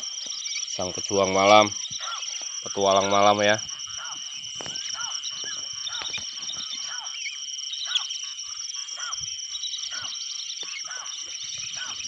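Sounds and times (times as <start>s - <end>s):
birds calling: 0.0s - 12.0s
insect chorus trilling: 0.0s - 12.0s.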